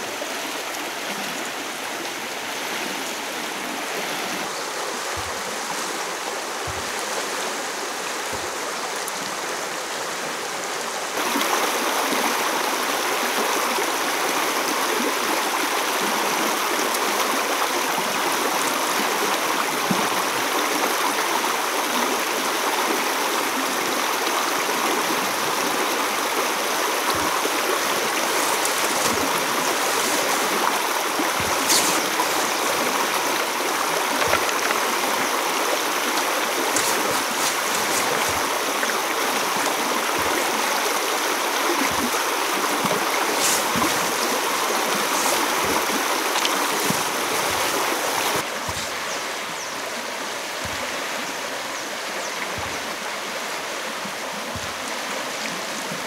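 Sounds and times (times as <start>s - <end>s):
river rushing over stones: 0.0s - 56.0s.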